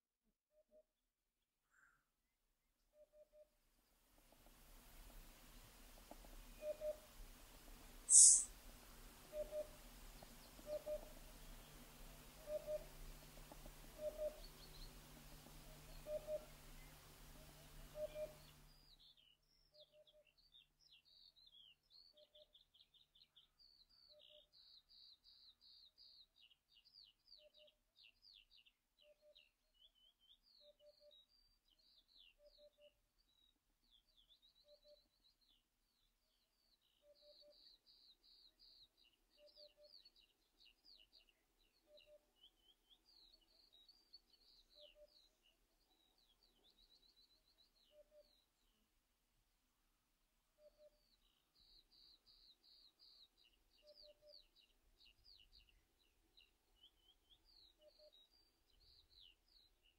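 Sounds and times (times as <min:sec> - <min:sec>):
songbird chirps and trills: 0:04.4 - 0:48.9, 0:50.6 - 0:59.9.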